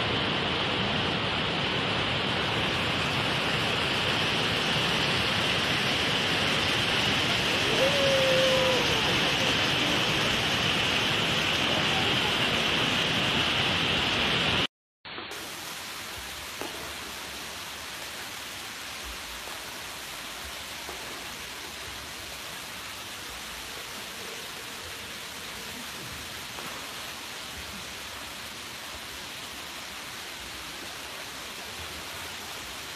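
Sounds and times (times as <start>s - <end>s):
waterfall rushing: 0.0s - 14.7s, 15.3s - 32.9s.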